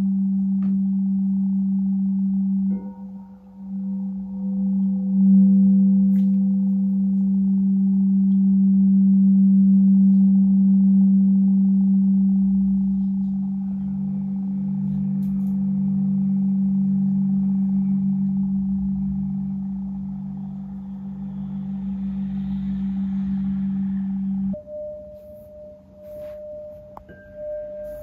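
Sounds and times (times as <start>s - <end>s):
lower singing bowl tone: 0.0s - 28.0s
singing bowl humming: 0.0s - 28.0s.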